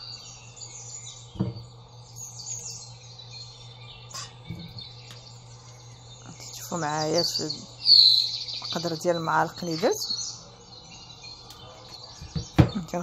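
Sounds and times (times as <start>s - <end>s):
birds chirping faintly: 0.0s - 13.0s
steady low hum: 0.0s - 13.0s.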